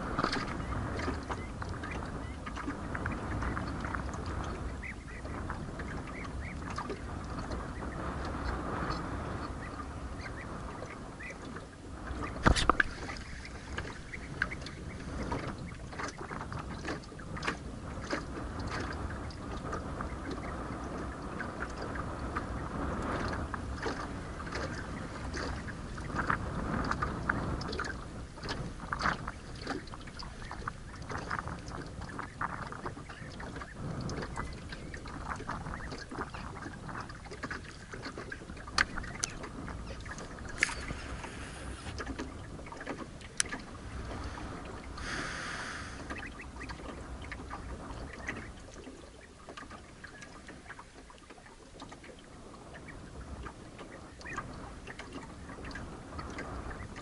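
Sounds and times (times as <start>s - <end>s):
water lapping against boat hull: 0.0s - 57.0s.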